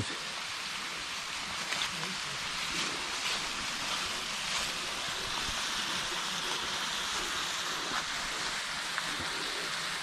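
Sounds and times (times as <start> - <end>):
waterfall splashing into creek: 0.0 - 10.0.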